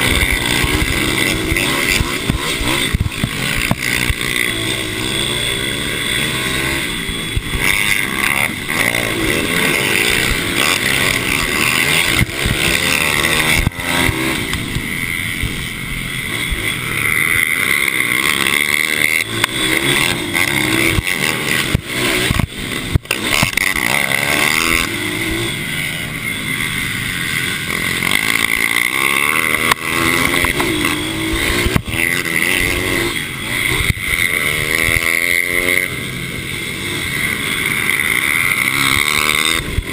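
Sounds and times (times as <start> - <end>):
mini bike engines revving: 0.0 - 39.9.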